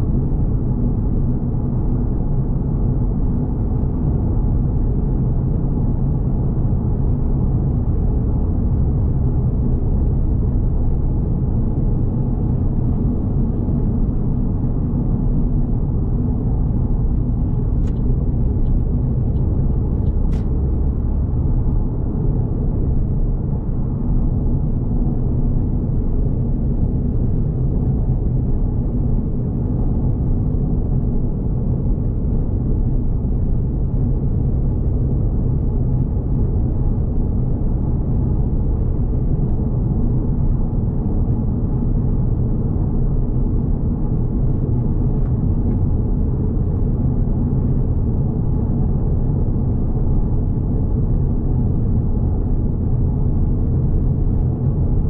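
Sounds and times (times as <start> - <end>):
car engine rumble in cabin: 0.0 - 55.0.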